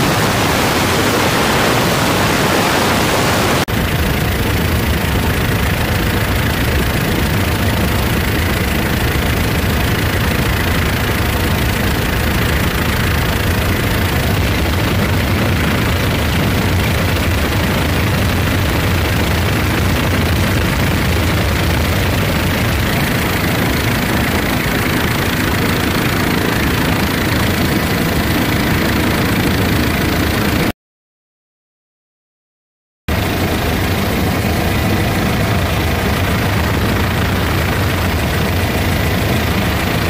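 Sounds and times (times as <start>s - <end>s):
helicopter engine and rotor: 0.0s - 30.7s, 33.1s - 40.0s.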